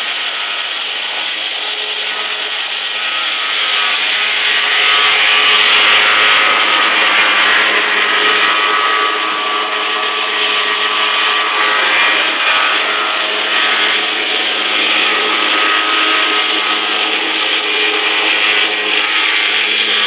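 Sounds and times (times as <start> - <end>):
gardening machine engine running: 0.0 - 20.0.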